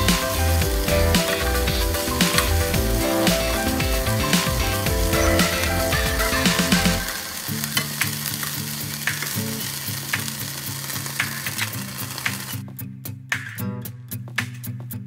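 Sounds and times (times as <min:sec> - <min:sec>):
meat sizzling in a pan: 0:00.0 - 0:12.6.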